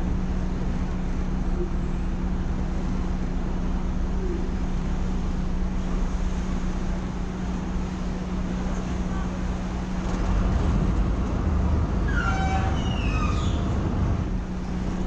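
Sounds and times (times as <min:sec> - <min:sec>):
ferry engine humming: 0:00.0 - 0:15.0.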